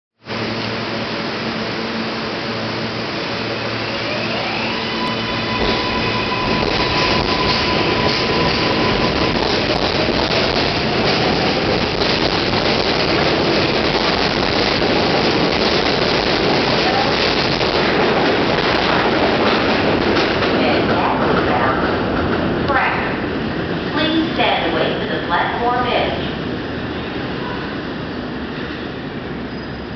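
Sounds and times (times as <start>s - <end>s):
train wheels rumbling on rails: 0.2s - 29.9s.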